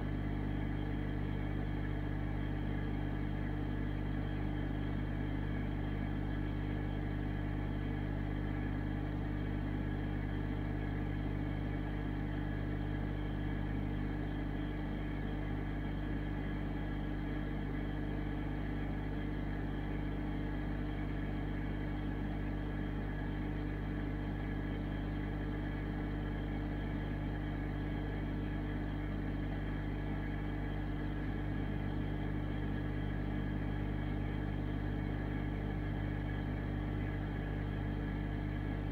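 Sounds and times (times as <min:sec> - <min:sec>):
aquarium filter humming: 0:00.0 - 0:38.9.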